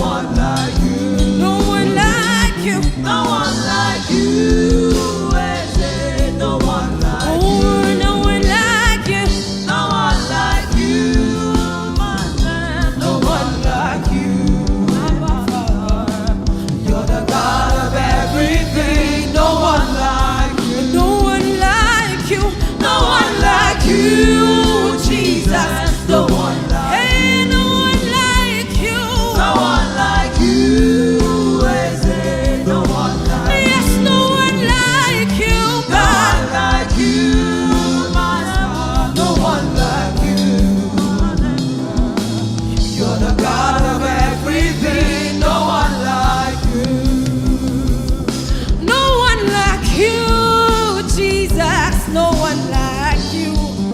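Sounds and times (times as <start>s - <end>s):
voices singing gospel music: 0.0s - 53.9s.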